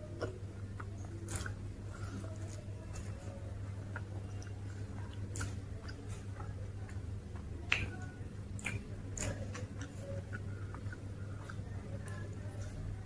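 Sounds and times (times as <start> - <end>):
person chewing crisp food: 0.0 - 13.0
steady low hum: 0.0 - 13.0.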